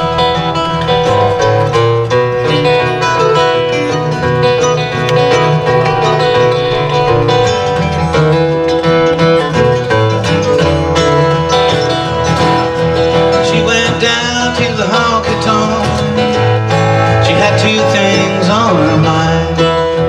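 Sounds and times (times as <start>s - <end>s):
acoustic guitars strumming: 0.0s - 20.0s
mandolin fast picking: 0.0s - 20.0s.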